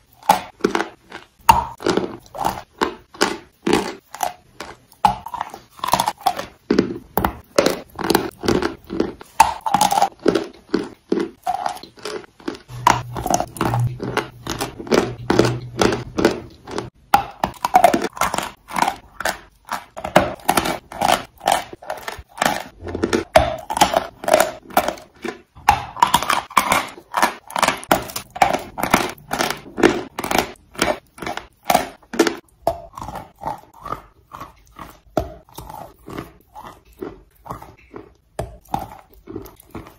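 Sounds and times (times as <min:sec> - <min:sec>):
chalk being chewed: 0:00.0 - 0:39.9.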